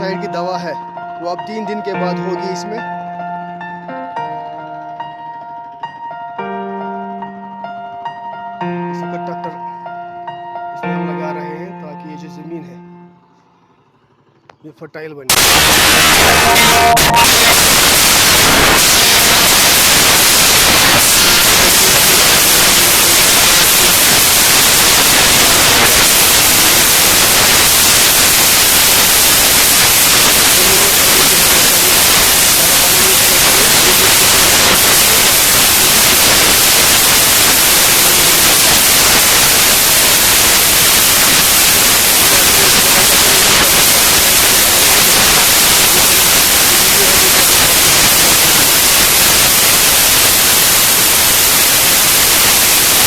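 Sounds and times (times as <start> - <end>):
loud static hiss: 0.0 - 5.2, 13.8 - 53.0.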